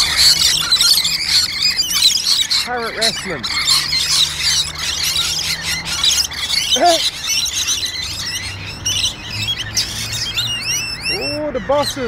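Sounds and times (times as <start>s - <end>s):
lorikeets screeching: 0.0s - 12.0s.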